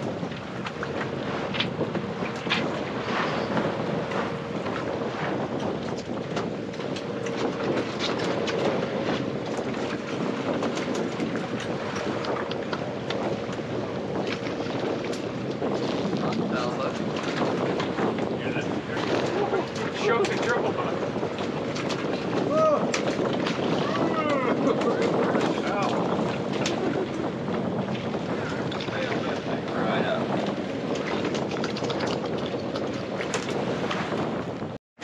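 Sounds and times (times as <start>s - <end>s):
water washing against hull: 0.0s - 35.0s
wind buffeting microphone: 0.0s - 35.0s.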